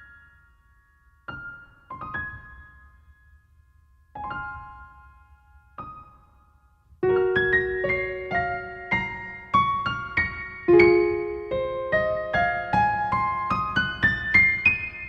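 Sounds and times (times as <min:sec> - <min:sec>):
soft slow piano music: 0:00.0 - 0:15.0.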